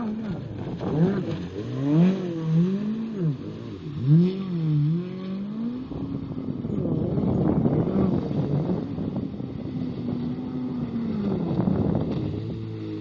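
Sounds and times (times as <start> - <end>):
jet ski engine revving: 0.0 - 13.0.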